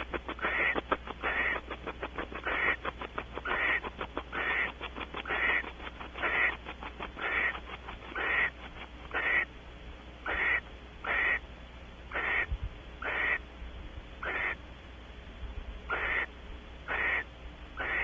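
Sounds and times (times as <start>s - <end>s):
owl hissing screech calls: 0.0s - 9.5s, 10.2s - 11.4s, 12.1s - 13.4s, 14.2s - 14.6s, 15.9s - 18.0s.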